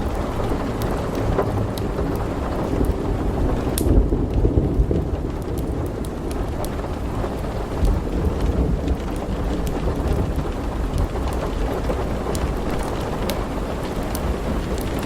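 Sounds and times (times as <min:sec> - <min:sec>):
low thunder rumble: 0:00.0 - 0:15.0
sharp crackles: 0:00.0 - 0:15.0
steady rain: 0:00.0 - 0:15.0.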